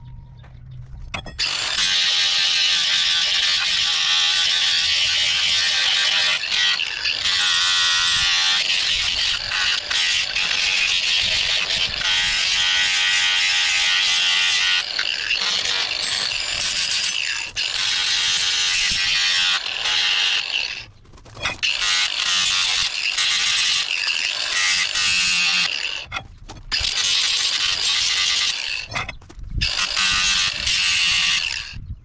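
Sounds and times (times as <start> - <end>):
grinder grinding metal: 1.2 - 31.9.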